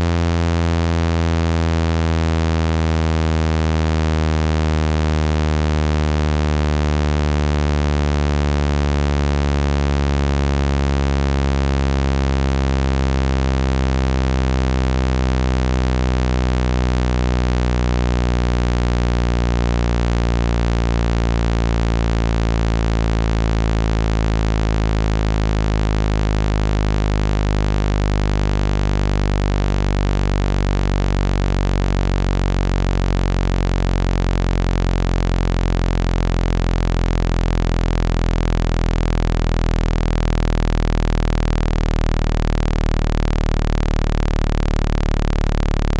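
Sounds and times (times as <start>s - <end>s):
loud low synthesized hum: 0.0s - 45.9s.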